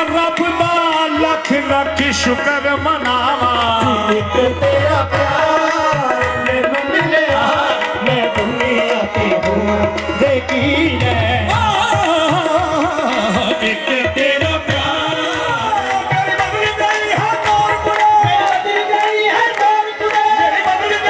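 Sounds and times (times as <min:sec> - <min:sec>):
tabla drumming: 0:00.0 - 0:21.0.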